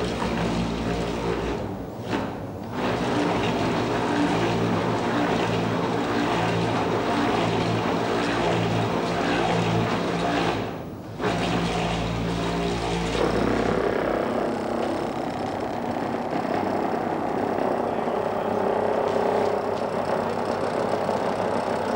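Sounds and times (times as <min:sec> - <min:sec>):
electric motors whirring and rattling: 0:00.0 - 0:21.9.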